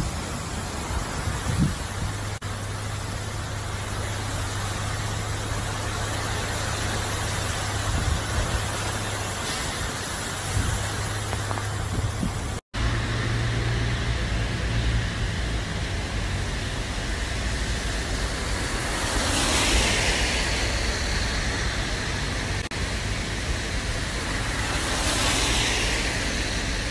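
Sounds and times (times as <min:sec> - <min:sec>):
rain hissing: 0:00.0 - 0:26.9
traffic hum: 0:00.0 - 0:26.9.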